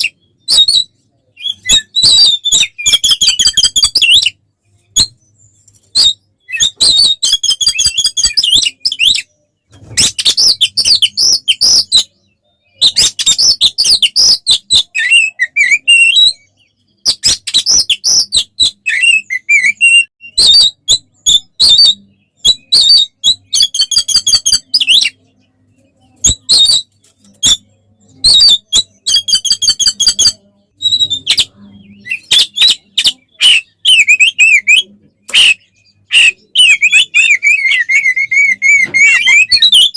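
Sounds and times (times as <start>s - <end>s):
songbird singing whistles and rattles: 0.0s - 25.2s, 25.8s - 39.9s.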